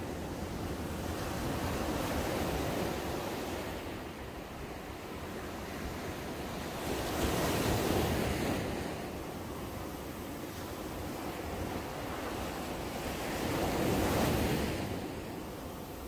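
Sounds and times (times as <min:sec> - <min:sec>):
waves washing up a beach: 0:00.0 - 0:16.0.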